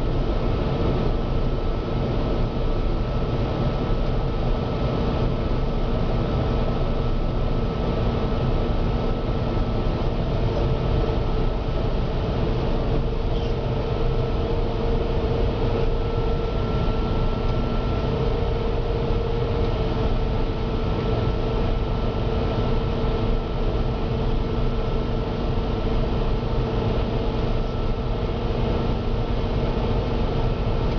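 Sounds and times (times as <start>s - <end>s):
combine harvester drone: 0.0s - 30.9s
machine whine: 0.0s - 30.9s.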